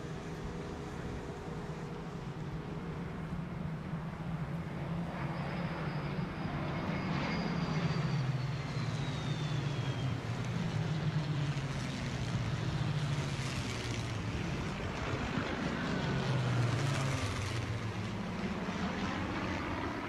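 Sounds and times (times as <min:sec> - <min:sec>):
high whine gliding downward: 0:00.0 - 0:20.0
low engine-like drone: 0:00.0 - 0:20.0.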